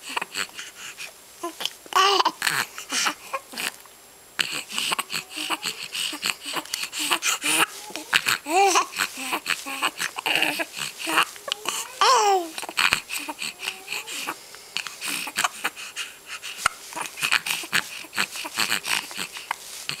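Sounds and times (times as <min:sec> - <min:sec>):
baby cooing and babbling: 0:01.4 - 0:03.8, 0:04.4 - 0:15.8, 0:16.9 - 0:20.0.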